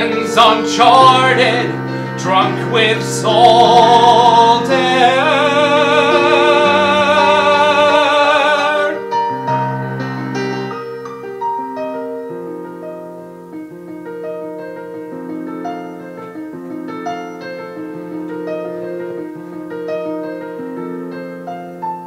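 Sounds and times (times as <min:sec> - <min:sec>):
piano playing: 0:00.0 - 0:22.0.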